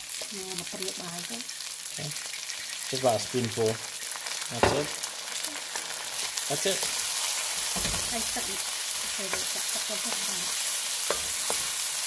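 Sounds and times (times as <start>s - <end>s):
shrimp sizzling in butter: 0.0s - 12.0s.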